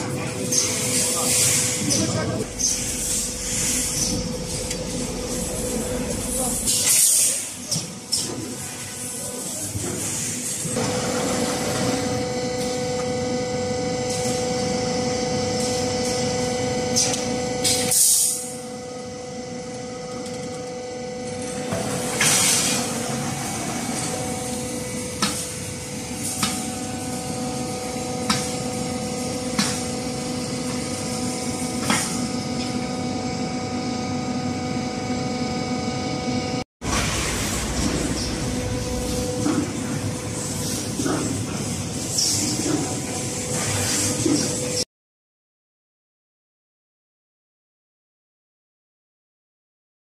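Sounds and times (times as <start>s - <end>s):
machinery humming: 0.0s - 44.8s.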